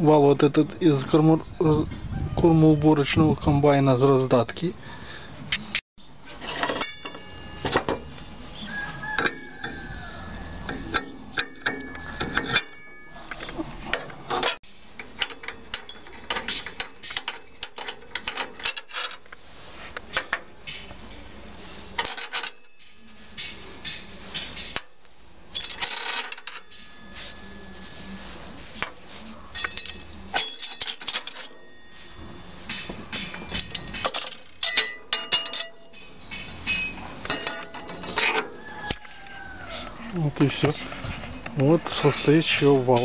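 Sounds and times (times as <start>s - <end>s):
metal clinks and scrapes: 6.2s - 39.9s, 40.5s - 43.0s.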